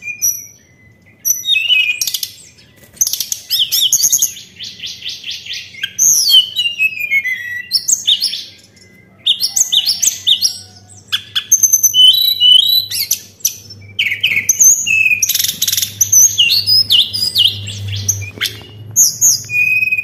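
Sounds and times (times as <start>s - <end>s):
bird singing whistled phrases: 0.0s - 20.0s.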